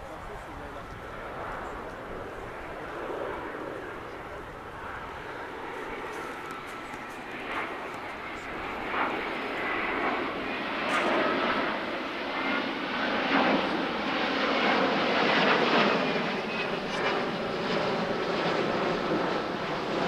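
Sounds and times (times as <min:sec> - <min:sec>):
jet airliner flying overhead: 0:00.0 - 0:20.0.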